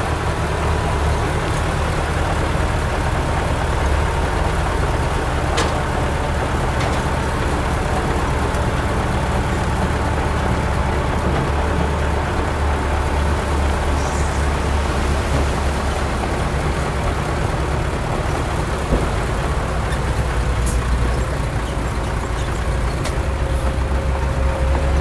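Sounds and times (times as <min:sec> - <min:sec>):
diesel machinery engine drone: 0:00.0 - 0:25.0.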